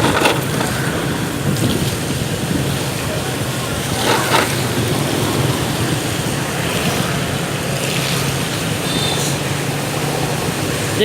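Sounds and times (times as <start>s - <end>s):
motorbike engine hum: 0.0s - 11.0s
tyre hiss on wet road: 0.0s - 11.0s
wind noise on microphone: 0.0s - 11.0s.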